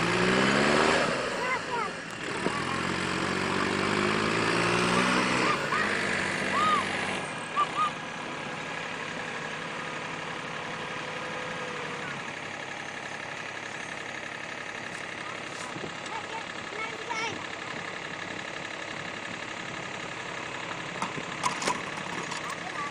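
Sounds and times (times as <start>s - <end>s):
heavy vehicle engine idling: 0.0s - 22.9s.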